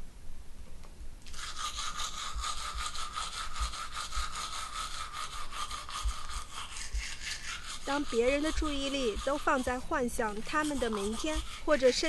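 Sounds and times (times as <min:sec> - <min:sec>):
bristles scrubbing teeth: 0:01.3 - 0:12.0
electric toothbrush buzzing: 0:01.3 - 0:12.0.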